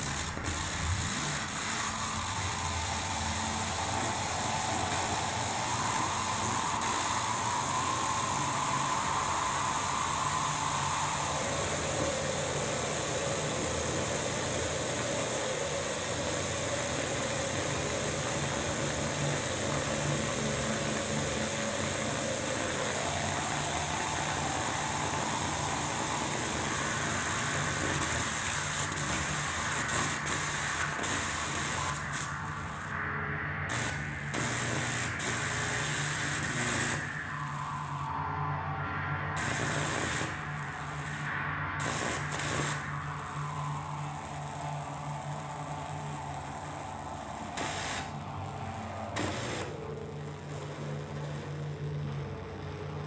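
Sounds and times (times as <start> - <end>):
dense wall of hiss: 0.0 - 52.8.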